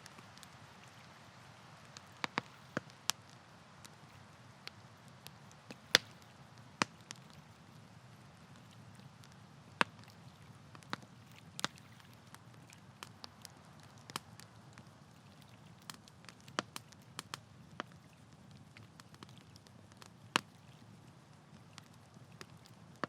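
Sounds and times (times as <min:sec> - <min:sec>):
campfire crackling and popping: 0:00.0 - 0:23.0
faint low steady hiss: 0:00.0 - 0:23.0.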